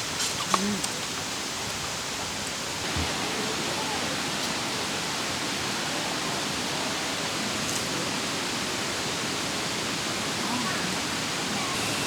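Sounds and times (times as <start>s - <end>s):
stream rushing: 1.0s - 12.0s.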